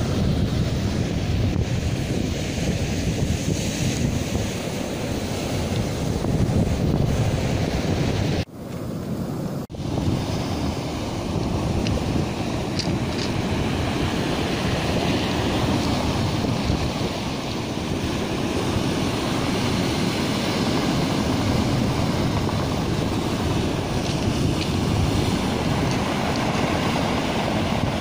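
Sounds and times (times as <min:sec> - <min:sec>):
surf washing up pebble beach: 0:00.0 - 0:08.5, 0:09.4 - 0:28.0.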